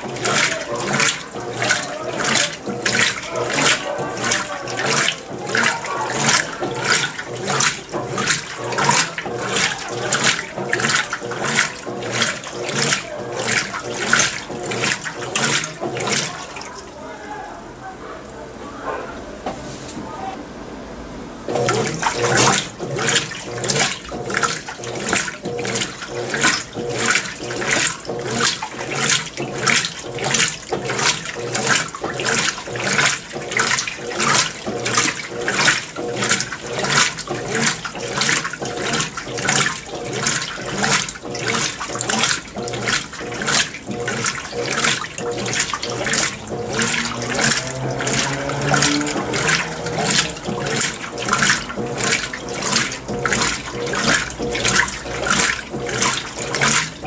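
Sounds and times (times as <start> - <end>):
washing machine water sloshing: 0.0 - 57.0.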